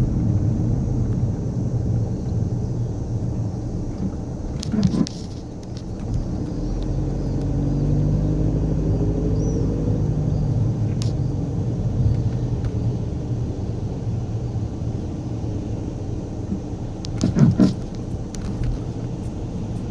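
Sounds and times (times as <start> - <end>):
car road rumble: 0.0 - 19.9.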